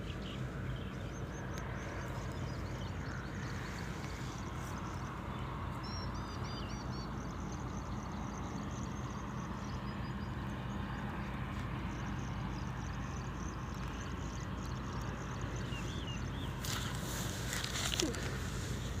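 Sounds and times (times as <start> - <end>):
engine droning: 0.0 - 19.0
outdoor background noise: 0.0 - 19.0.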